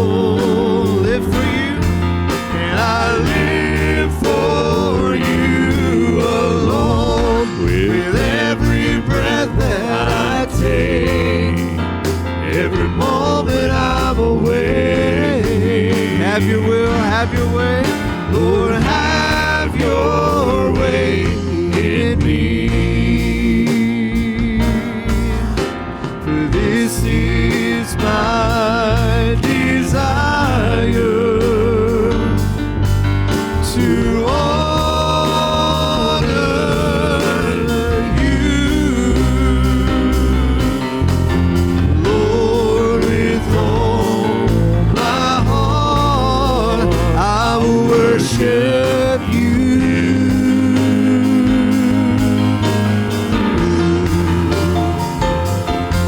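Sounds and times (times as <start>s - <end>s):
band playing worship music: 0.0s - 56.0s
drawn-out sung vocals: 0.0s - 56.0s.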